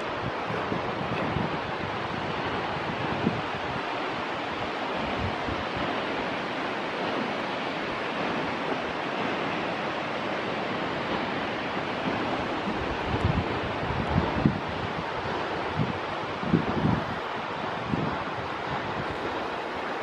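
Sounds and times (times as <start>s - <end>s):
rushing wind: 0.0s - 20.0s
wind gusts buffeting microphone: 0.0s - 20.0s.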